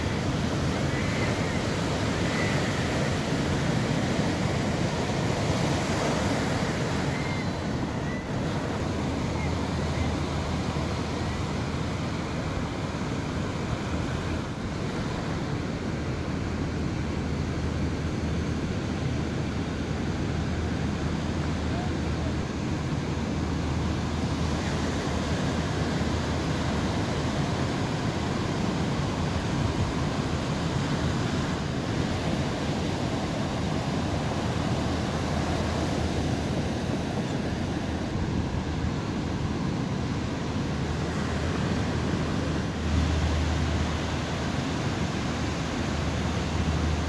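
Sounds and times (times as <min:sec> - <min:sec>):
ocean waves breaking: 0:00.0 - 0:47.0.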